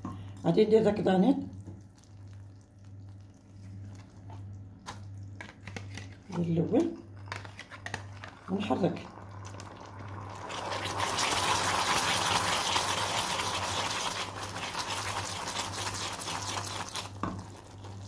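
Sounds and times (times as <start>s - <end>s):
caramel seething and sizzling: 1.1s - 18.0s.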